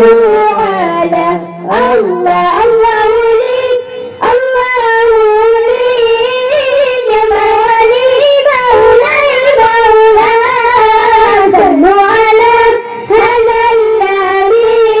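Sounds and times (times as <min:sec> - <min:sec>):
child singing devotional chant: 0:00.0 - 0:15.0.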